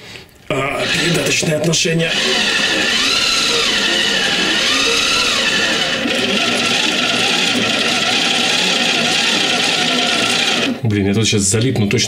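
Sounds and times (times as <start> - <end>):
gear train whirring: 0.7 - 10.8.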